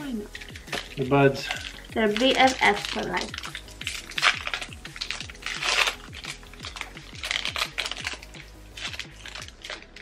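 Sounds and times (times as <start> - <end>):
background music: 0.0 - 10.0
foil wrappers crinkling and tearing: 0.0 - 10.0.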